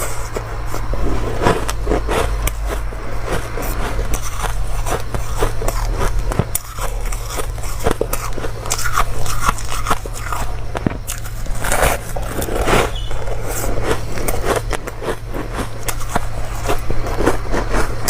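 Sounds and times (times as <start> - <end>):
ice being chewed: 0.0 - 18.0
steady low hum: 0.0 - 18.0.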